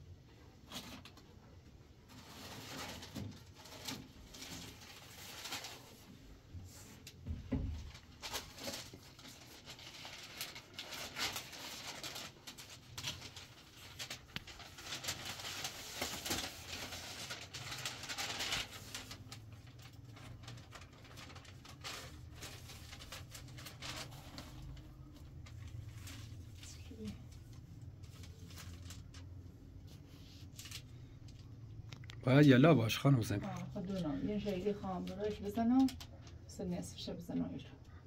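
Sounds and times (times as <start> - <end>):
faint low hum: 0.0 - 38.0
rustling: 0.6 - 31.9.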